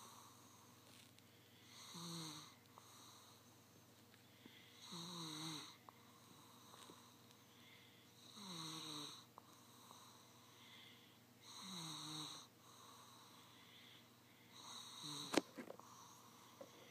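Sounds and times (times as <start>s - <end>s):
light snoring: 1.7s - 3.4s, 4.8s - 16.9s.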